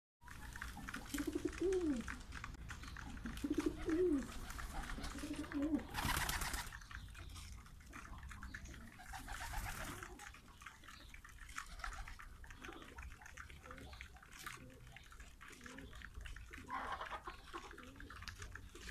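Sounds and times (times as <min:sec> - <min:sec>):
pigeon wingbeats: 0:00.2 - 0:07.0, 0:07.6 - 0:18.9
beaks pecking on concrete: 0:00.2 - 0:18.9
pigeons cooing: 0:00.3 - 0:18.9.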